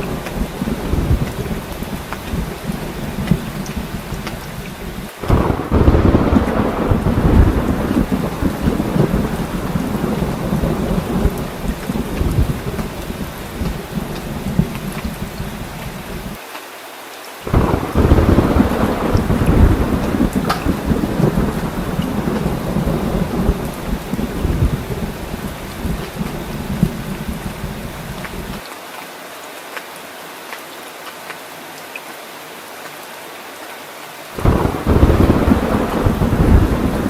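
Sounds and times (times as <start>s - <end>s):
thunder rumbling: 0.0s - 16.4s, 17.5s - 28.6s, 34.4s - 37.0s
heavy rain falling: 0.0s - 37.0s.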